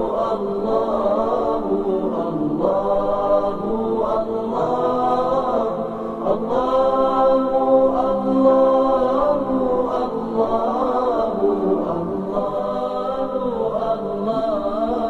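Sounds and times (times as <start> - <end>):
vocal chanting: 0.0 - 15.0.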